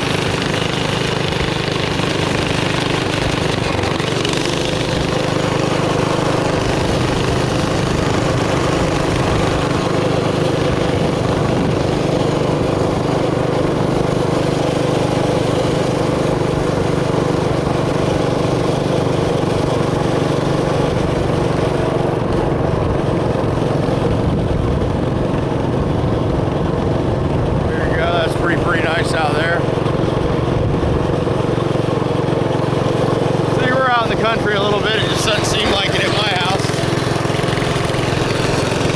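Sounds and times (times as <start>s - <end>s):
mini bike engine running: 0.0s - 38.9s.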